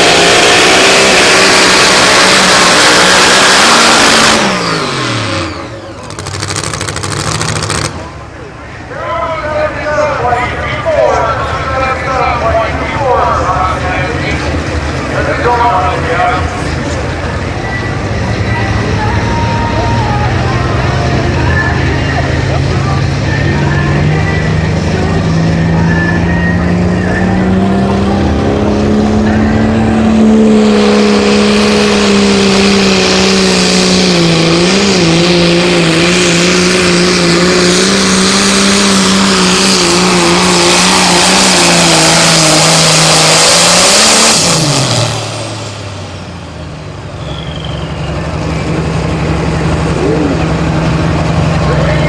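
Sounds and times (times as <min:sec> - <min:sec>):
tractor engine at full throttle: 0:00.0 - 0:52.0
tyre and dirt noise: 0:00.0 - 0:52.0.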